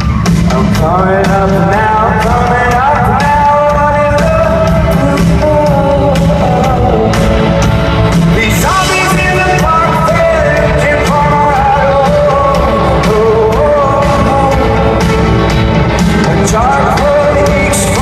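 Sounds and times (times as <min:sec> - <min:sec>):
drums steady beat: 0:00.0 - 0:18.0
lead singer vocals: 0:00.0 - 0:18.0
rock band playing live: 0:00.0 - 0:18.0.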